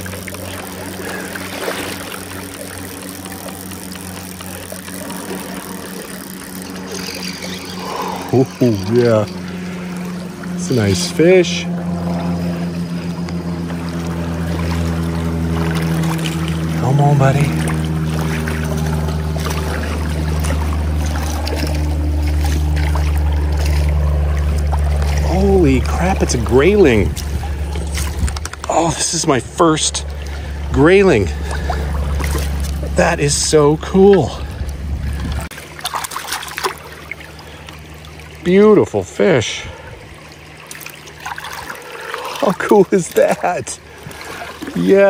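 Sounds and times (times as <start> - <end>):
creek water rushing: 0.0 - 45.0
small water splashes: 0.0 - 45.0
steady low hum: 0.0 - 45.0.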